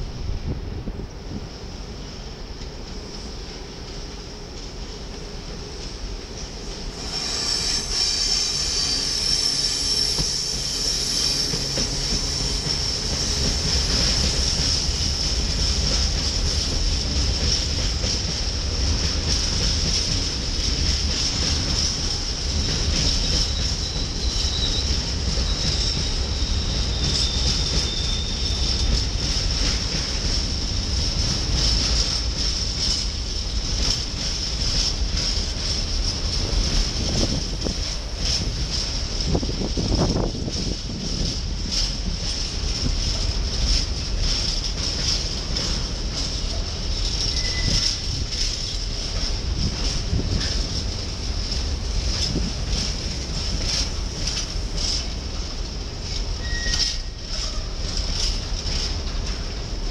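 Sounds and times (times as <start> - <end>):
wheels rumbling on rail: 0.0 - 59.9
train wheel squeal: 6.4 - 18.3, 19.0 - 59.8.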